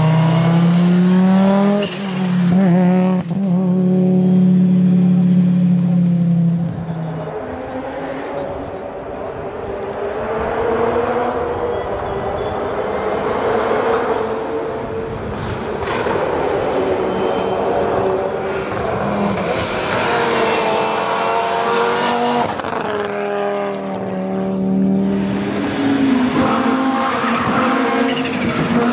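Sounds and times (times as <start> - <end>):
rally car engine at full throttle: 0.0 - 28.9.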